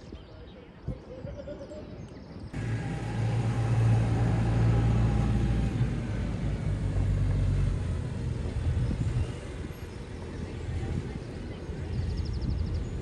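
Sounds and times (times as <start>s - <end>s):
tractor engine droning: 2.6s - 13.0s.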